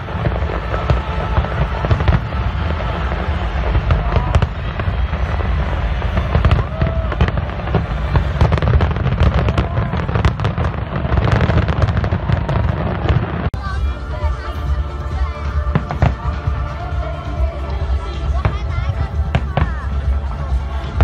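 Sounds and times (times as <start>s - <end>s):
fireworks crackling bursts: 0.0s - 21.0s.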